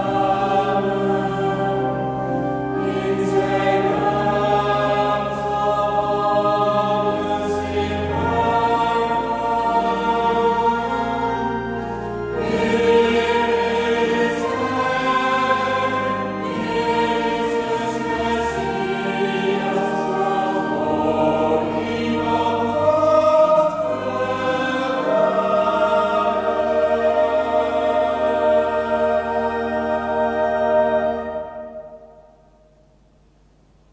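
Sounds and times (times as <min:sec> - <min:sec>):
choir singing: 0:00.0 - 0:32.6
organ accompaniment: 0:00.0 - 0:33.9.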